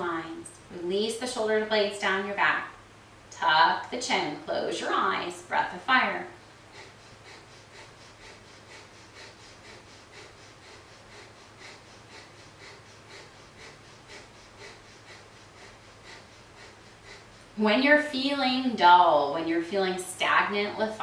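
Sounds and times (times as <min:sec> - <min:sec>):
rapid rhythmic nose breathing: 0:04.1 - 0:21.0.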